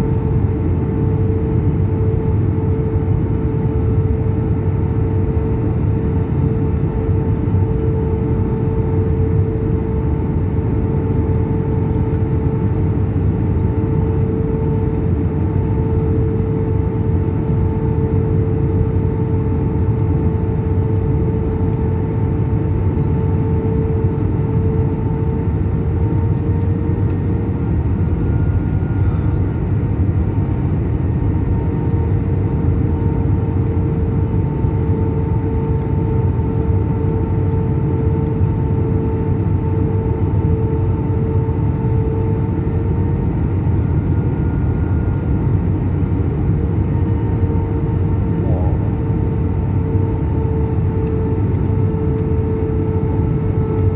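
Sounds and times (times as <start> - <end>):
airplane cabin rumble: 0.0 - 53.9
constant hum tone: 0.0 - 53.9.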